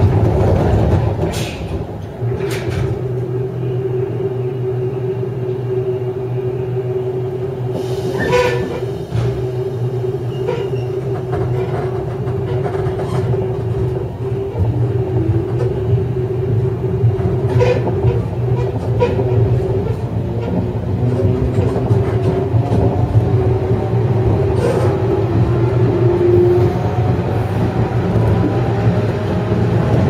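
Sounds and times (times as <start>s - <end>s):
train motor drone and whine: 2.0s - 30.0s.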